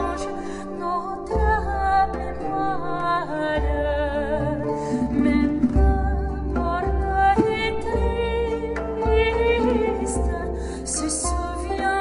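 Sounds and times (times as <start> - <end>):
soft slow instrumental music: 0.0 - 12.0.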